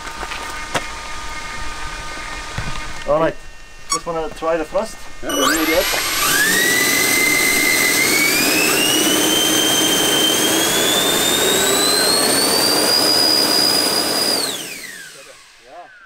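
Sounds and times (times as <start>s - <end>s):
electric ducted fans whining: 0.0s - 16.0s.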